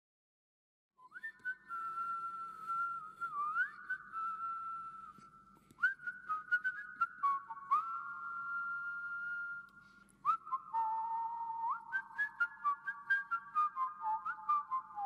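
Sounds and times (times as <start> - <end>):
high whistled notes: 1.0 - 15.0.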